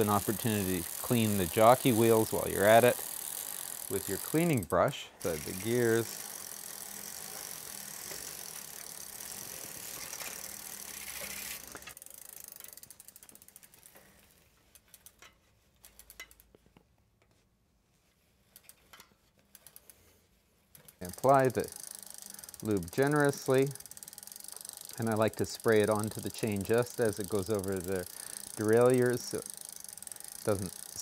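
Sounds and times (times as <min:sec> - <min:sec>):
bicycle chain ratcheting tick: 0:00.0 - 0:16.6, 0:18.5 - 0:20.1, 0:20.7 - 0:31.0.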